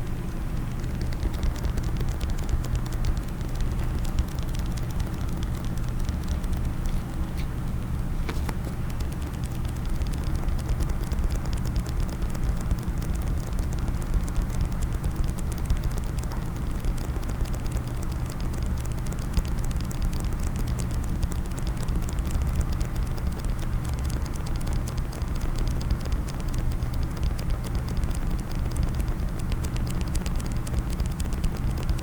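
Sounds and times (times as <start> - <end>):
rapid tapping on a hard case: 0.6 - 32.0.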